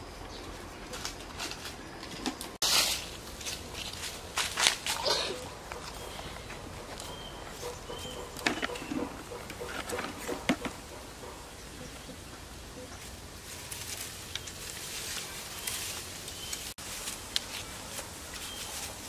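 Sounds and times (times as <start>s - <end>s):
dry straw rustling and crackling: 0.1s - 19.0s.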